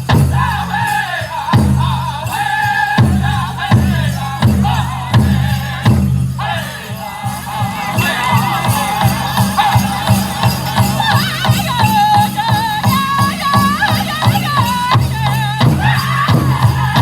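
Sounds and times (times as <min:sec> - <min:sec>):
big drum beating: 0:00.0 - 0:17.0
group of voices singing: 0:00.0 - 0:17.0.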